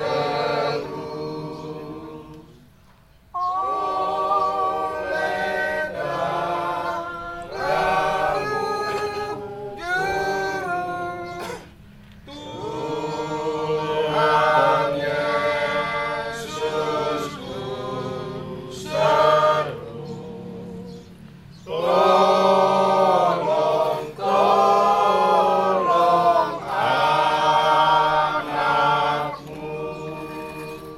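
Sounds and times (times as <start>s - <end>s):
choir singing: 0.0s - 2.7s, 3.3s - 11.6s, 12.2s - 30.9s.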